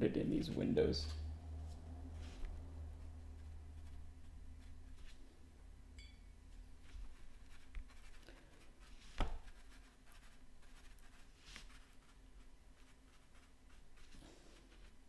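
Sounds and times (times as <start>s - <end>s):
brush strokes on paper: 1.0s - 5.3s, 6.8s - 15.0s.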